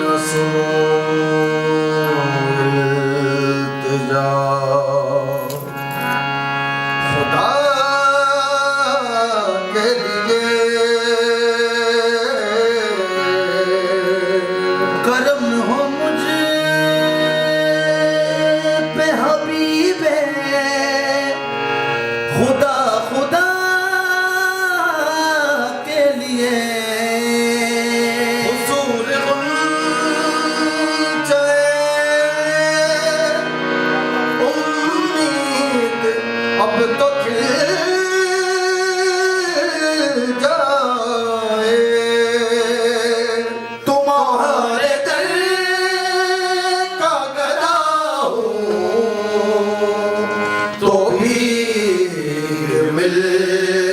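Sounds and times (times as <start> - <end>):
harmonium held tones: 0.0 - 53.9
man singing melismatic phrases: 7.2 - 21.4, 22.4 - 33.6, 34.4 - 53.9.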